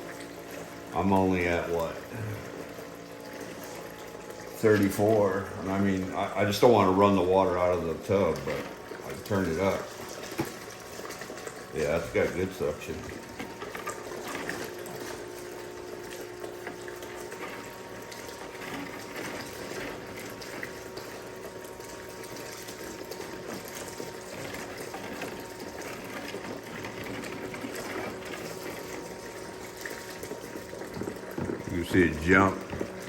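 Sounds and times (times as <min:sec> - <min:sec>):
pump running with faint whine: 0:00.0 - 0:33.0
water sucking and splashing: 0:00.0 - 0:33.0.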